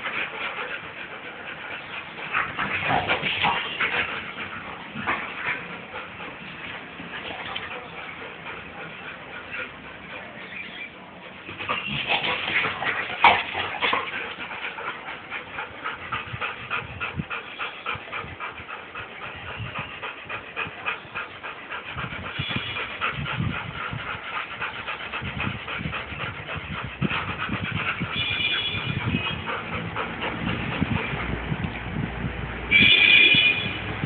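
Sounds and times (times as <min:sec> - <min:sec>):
dogs panting: 0:00.0 - 0:34.0.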